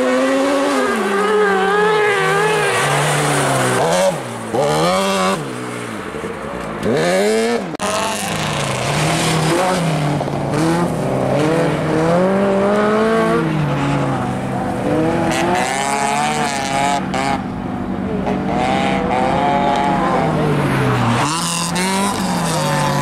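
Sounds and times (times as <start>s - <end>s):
racing car engines revving: 0.0s - 23.0s.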